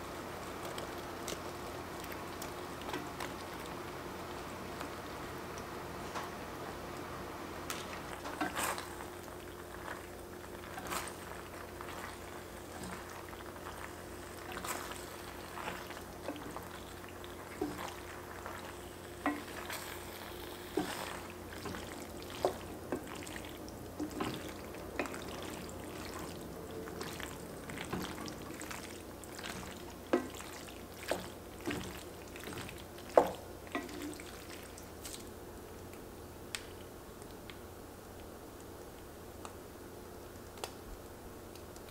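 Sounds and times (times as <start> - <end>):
faint hum: 0.0 - 41.9
wet squishing of pasta in sauce: 0.3 - 5.7, 7.6 - 37.5.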